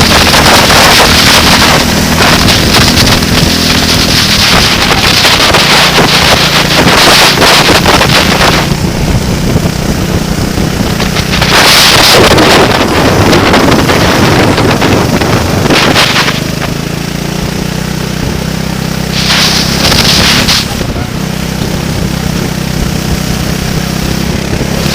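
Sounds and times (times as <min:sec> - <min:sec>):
vehicle engine running: 0:00.0 - 0:24.9
wind buffeting microphone: 0:00.0 - 0:24.9.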